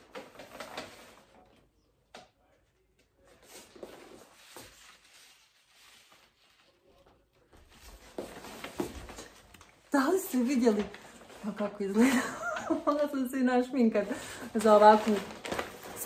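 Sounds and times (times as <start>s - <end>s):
paper wrapping rustling: 0.0s - 2.0s, 3.3s - 16.0s.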